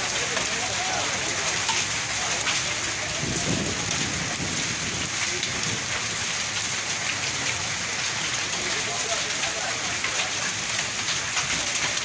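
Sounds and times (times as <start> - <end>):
heavy rain on road: 0.0 - 12.0.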